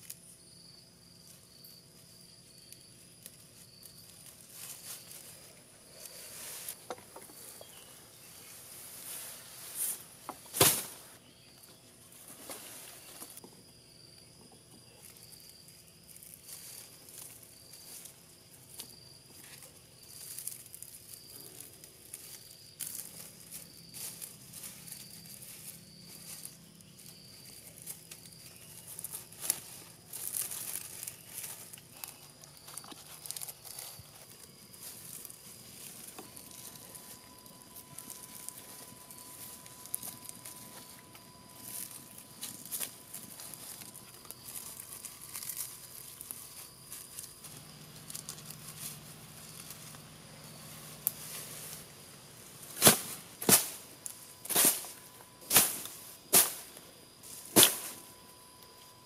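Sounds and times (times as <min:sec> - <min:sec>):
grass stalks rustling: 0:01.2 - 0:13.4, 0:14.9 - 0:58.9.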